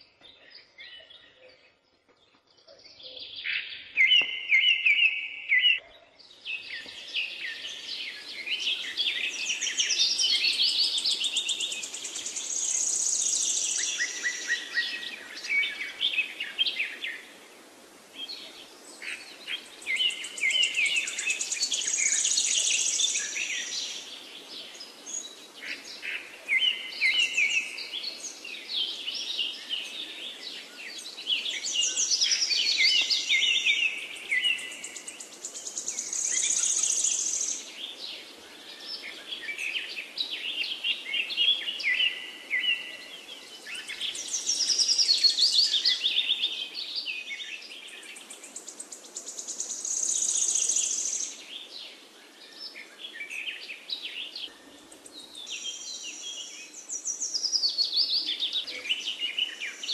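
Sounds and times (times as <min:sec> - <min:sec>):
birds chirping and twittering: 0:00.0 - 0:59.9
steady background hiss: 0:06.3 - 0:59.9.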